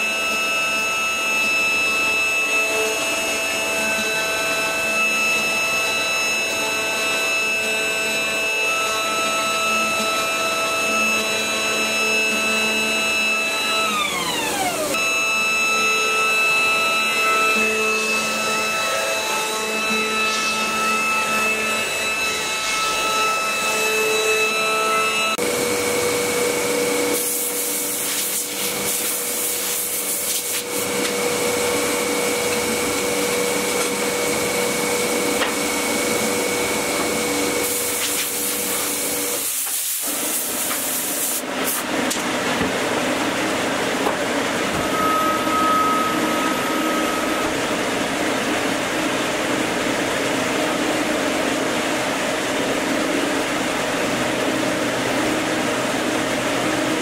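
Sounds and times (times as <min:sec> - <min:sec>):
machine hum with rough noise: 0:00.0 - 0:57.0
router spindle whining: 0:00.0 - 0:57.0.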